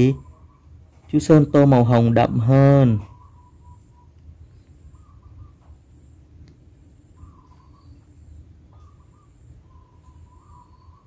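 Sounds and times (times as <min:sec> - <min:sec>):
bird chirping: 0:00.0 - 0:11.0
low hum: 0:00.0 - 0:11.0.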